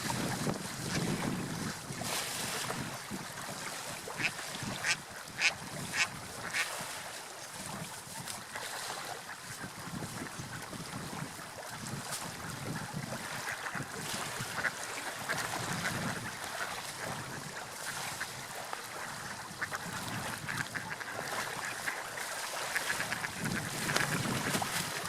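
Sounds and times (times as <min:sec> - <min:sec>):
water lapping and splashing: 0:00.0 - 0:25.0.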